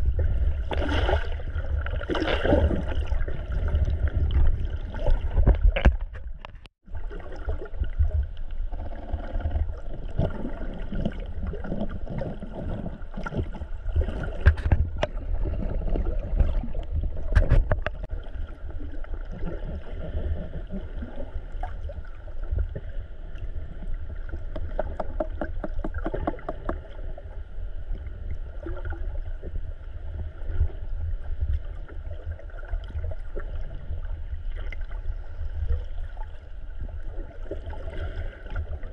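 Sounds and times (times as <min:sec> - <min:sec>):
underwater rumble of moving water: 0:00.0 - 0:38.9.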